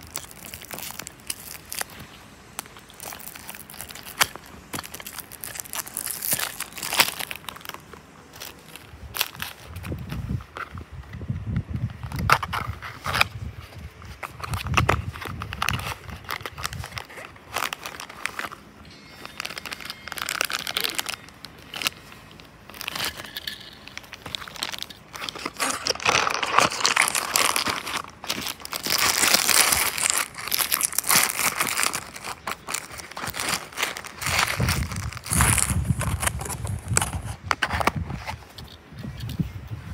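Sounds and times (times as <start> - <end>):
cardboard packaging rustling: 0.0 - 11.2, 11.8 - 39.4.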